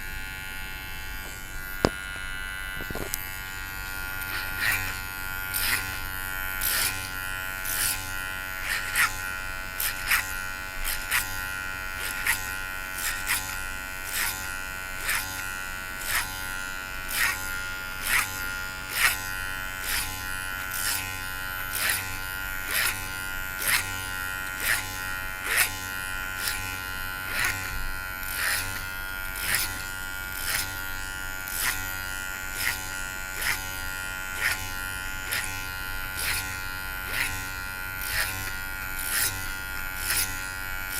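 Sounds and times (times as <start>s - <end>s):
electric hair clipper buzzing: 0.0s - 40.9s.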